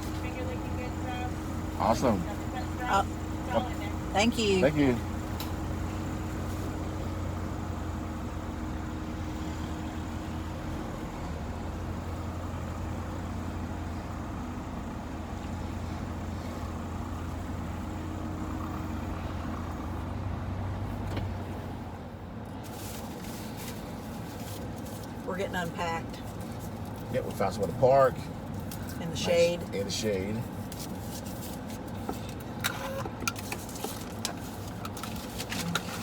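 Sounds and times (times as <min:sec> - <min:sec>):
car engine and road hum: 0:00.0 - 0:36.0.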